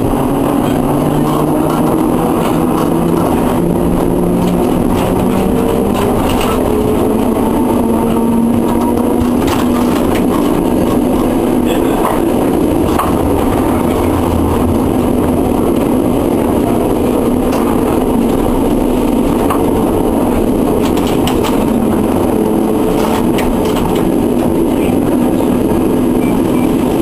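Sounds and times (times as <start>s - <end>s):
tram running on track: 0.0s - 27.0s.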